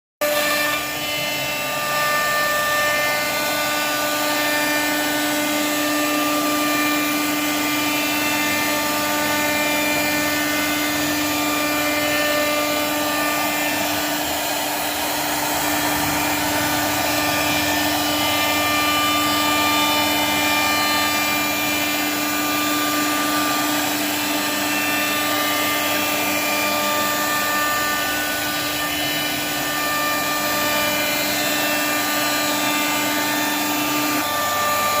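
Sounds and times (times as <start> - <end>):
router spindle whine: 0.2 - 35.0
bit rushing through wood: 0.4 - 35.0.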